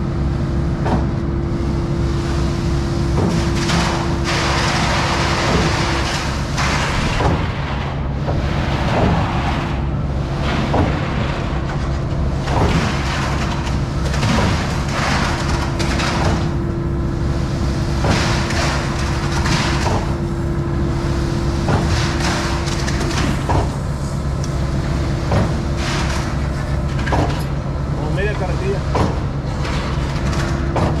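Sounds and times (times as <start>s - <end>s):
hydraulic concrete pump cycling: 0.0s - 31.0s
skid-steer engine running: 0.0s - 31.0s.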